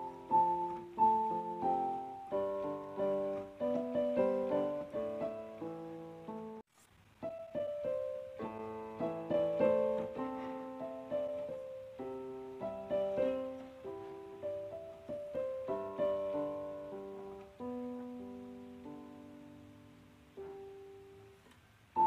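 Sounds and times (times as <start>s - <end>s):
gentle solo piano piece: 0.0s - 22.0s.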